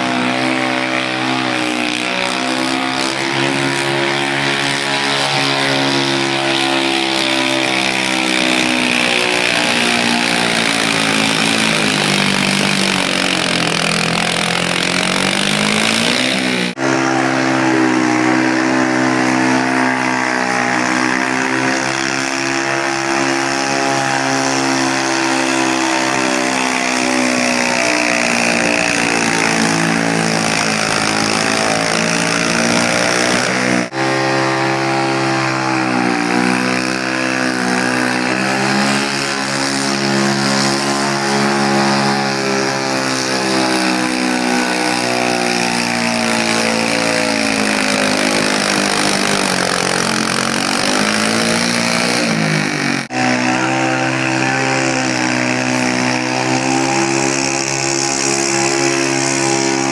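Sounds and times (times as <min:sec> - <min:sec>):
tractor engines at high revs: 0:00.0 - 0:59.9.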